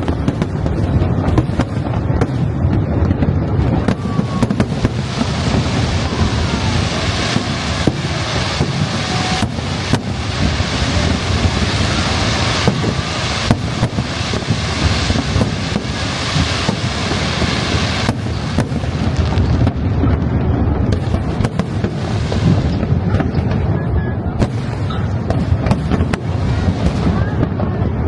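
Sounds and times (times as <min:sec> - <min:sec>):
fireworks rumbling bursts: 0:00.0 - 0:28.0
sharp firework bangs: 0:00.0 - 0:28.0.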